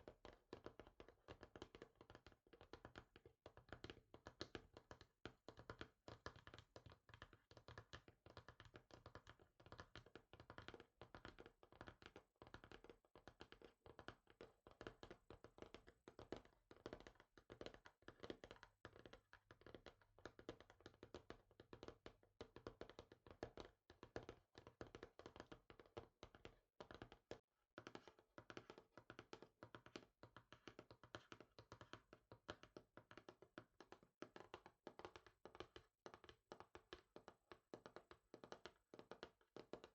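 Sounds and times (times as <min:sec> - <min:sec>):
fingers tapping on a surface: 0:00.2 - 0:39.9.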